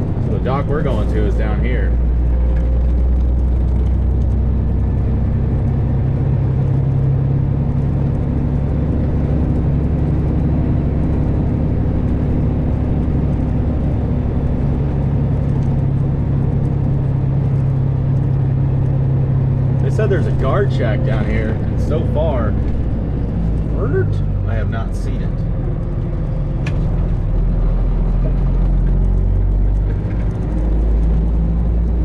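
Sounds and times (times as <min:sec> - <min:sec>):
truck diesel engine droning: 0:00.0 - 0:32.0.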